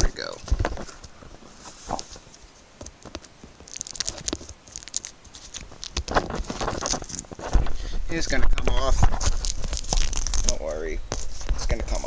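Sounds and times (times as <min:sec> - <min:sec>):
packaging rustling and crinkling: 0:00.2 - 0:12.0.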